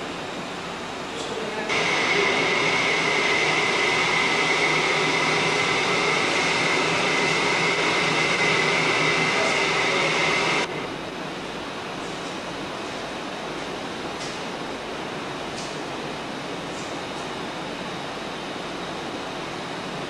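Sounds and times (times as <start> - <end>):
machine running with high whine: 0.0 - 20.0.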